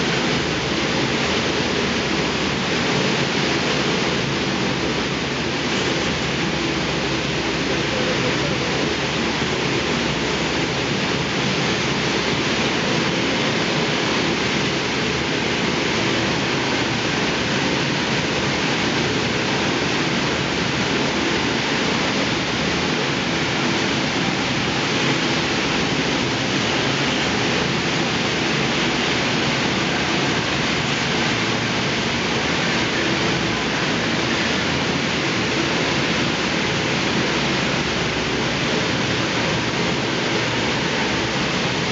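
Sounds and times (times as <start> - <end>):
thermal lance burning steady rush: 0.0 - 41.9.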